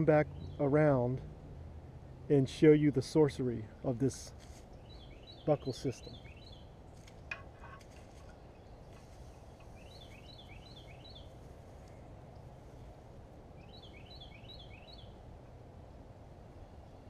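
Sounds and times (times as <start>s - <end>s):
songbird singing down-slurred notes: 0.0s - 1.2s, 2.3s - 17.0s
faint low outdoor background noise: 0.0s - 17.0s.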